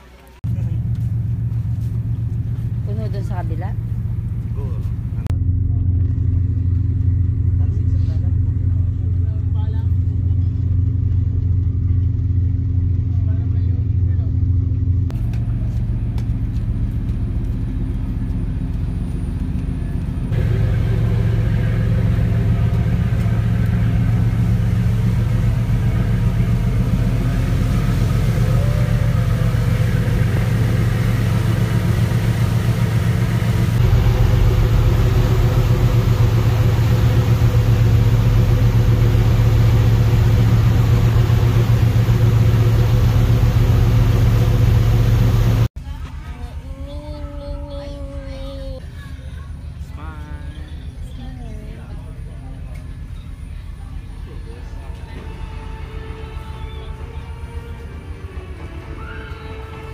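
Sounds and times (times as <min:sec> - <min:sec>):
ferry engines droning: 0:00.0 - 0:59.9.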